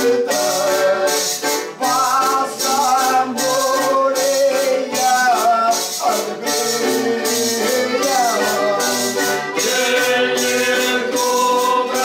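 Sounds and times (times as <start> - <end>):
men singing together: 0.0 - 12.0
metal hand percussion shaken: 0.0 - 12.0.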